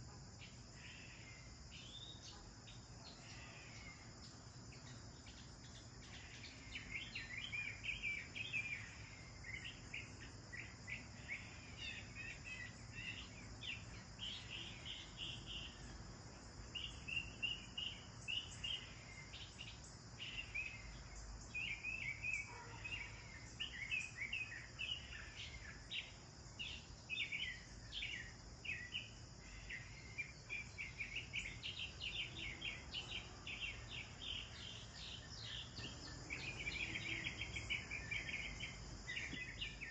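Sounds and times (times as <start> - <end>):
high-pitched insect hum: 0.0 - 39.9
sparrows chirping: 0.5 - 39.9.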